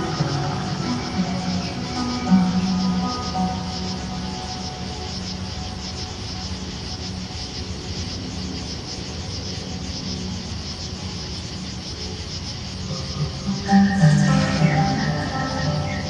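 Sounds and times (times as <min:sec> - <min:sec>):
crickets chirping: 0:00.0 - 0:16.0
low sustained tone: 0:00.0 - 0:16.0.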